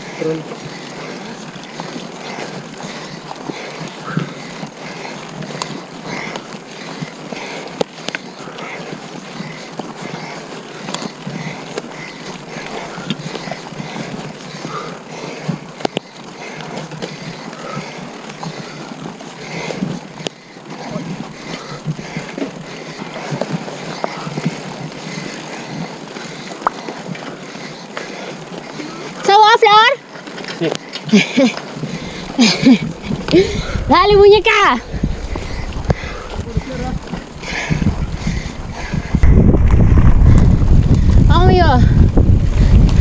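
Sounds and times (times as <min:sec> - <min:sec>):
bike tyres on dirt trail: 0:00.0 - 0:43.0.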